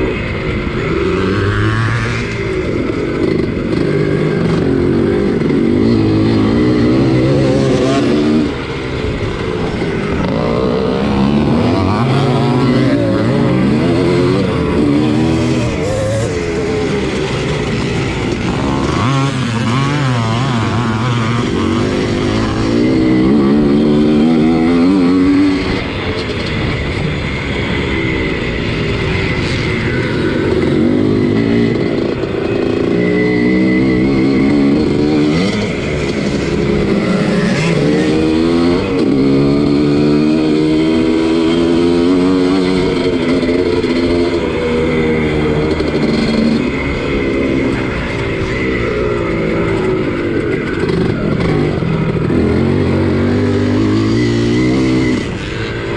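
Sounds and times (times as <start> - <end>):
motocross motorcycle engine racing: 0.0 - 55.9.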